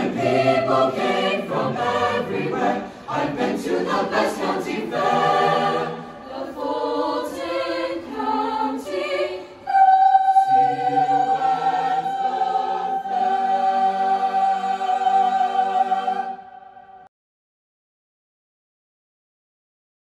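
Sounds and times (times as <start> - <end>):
choir singing unaccompanied: 0.0 - 17.1.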